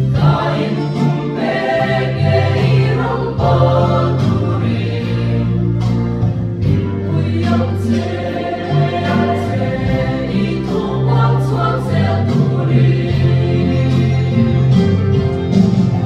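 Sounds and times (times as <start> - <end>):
choir singing a hymn: 0.0 - 15.6.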